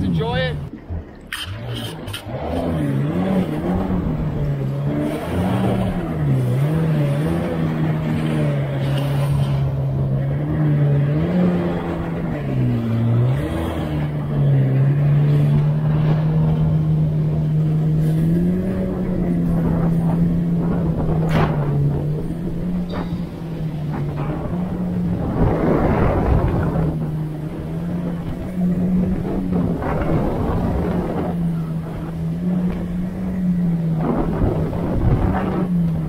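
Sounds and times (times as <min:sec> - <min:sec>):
water rushing: 0:00.0 - 0:36.0
watercraft engine running: 0:00.0 - 0:36.0
wind: 0:00.0 - 0:36.0.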